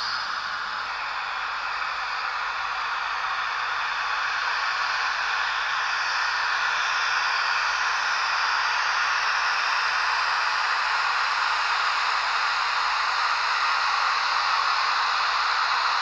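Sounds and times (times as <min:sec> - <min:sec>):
model train whirring on track: 0:00.0 - 0:16.0.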